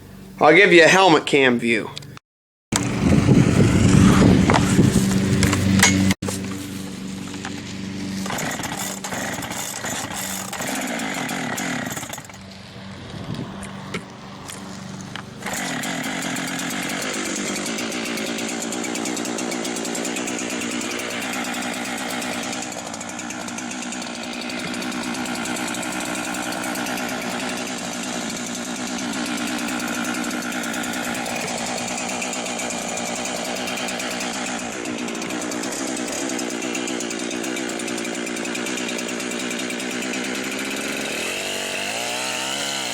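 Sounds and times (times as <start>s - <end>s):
chainsaw running at high revs: 2.7s - 42.9s.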